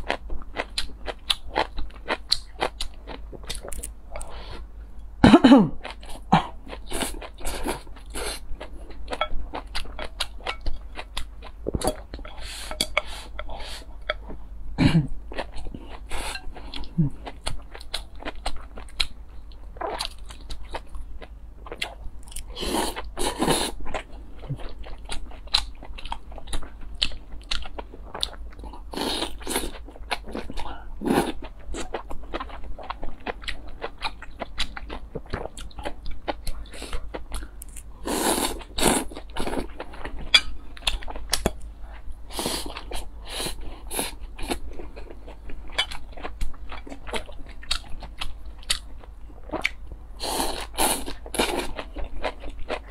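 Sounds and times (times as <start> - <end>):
person chewing crunchy food: 0.0 - 4.7, 5.8 - 14.4, 15.3 - 52.9.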